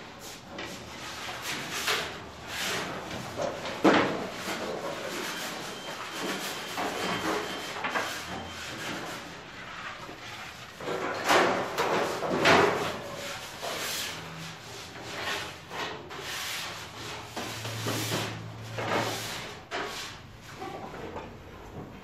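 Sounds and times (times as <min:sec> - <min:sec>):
metal baking trays scraping on rack: 0:00.0 - 0:21.4.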